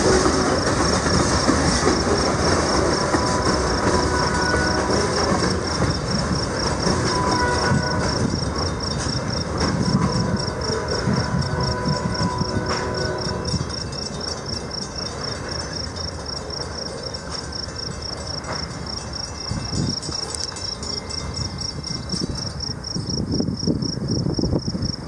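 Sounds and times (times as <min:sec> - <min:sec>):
freight train rumbling: 0:00.0 - 0:25.0
insect chirping: 0:00.4 - 0:25.0.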